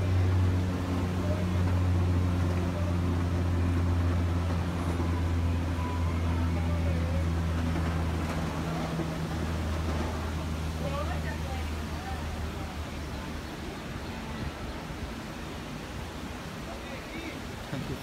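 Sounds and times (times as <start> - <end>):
low mechanical drone: 0.0 - 16.7.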